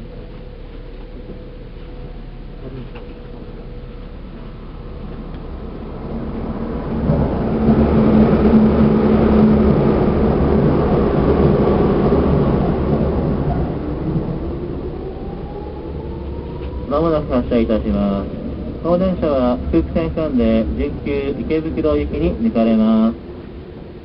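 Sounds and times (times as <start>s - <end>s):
passing train rumble: 0.0s - 24.0s.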